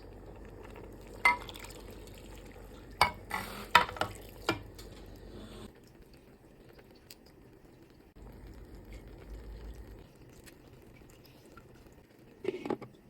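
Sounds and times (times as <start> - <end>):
pot bubbling: 0.0 - 13.0.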